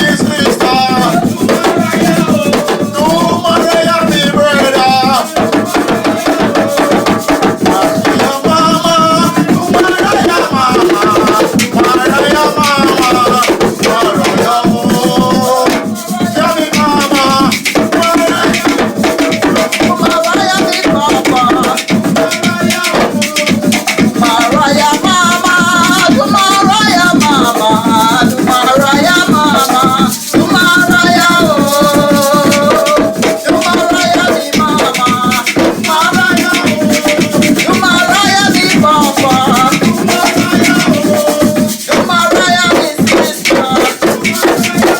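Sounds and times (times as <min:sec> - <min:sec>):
hand drums beating: 0:00.0 - 0:44.9
shaker rattling: 0:00.0 - 0:44.9
voices chanting: 0:00.0 - 0:44.9.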